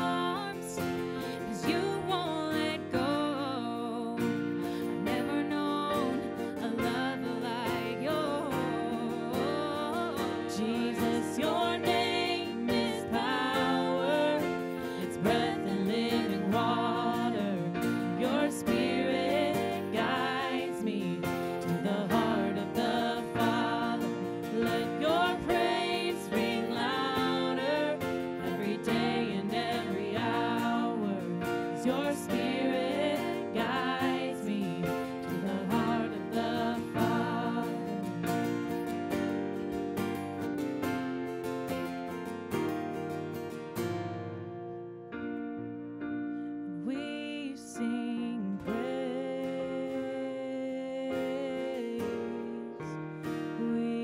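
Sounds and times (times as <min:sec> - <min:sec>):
women singing together: 0:00.0 - 0:38.2, 0:46.9 - 0:52.8, 0:53.6 - 0:54.0
strummed acoustic guitar: 0:00.0 - 0:46.8, 0:48.3 - 0:54.0.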